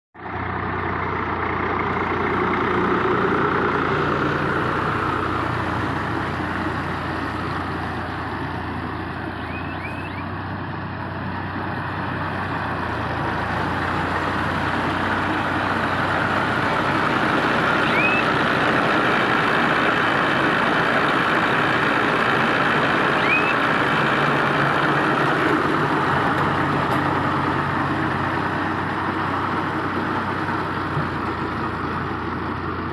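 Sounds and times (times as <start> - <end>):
tractor engine running: 0.2 - 32.9.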